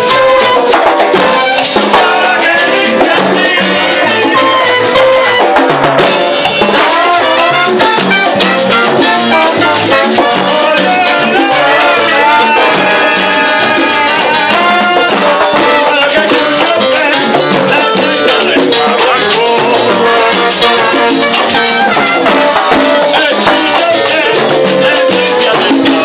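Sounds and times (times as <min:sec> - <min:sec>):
congas: 0:00.0 - 0:26.0
trombones and trumpets: 0:00.0 - 0:26.0.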